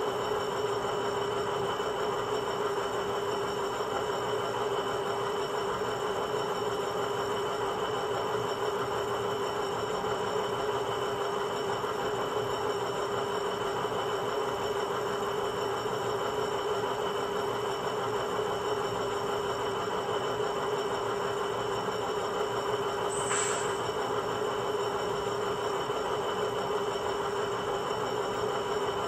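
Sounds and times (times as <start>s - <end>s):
diesel locomotive sound from small speaker: 0.0s - 29.0s.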